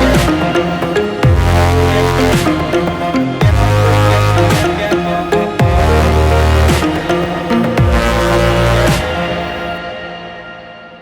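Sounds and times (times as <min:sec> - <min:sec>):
dubstep music with heavy bass: 0:00.0 - 0:10.0.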